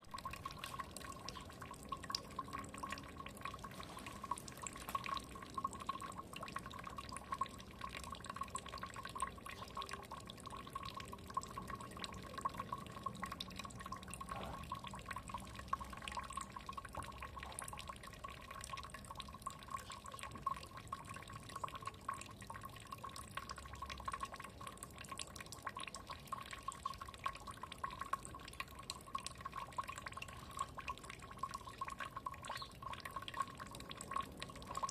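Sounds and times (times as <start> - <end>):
water trickling and dripping: 0.0 - 34.9.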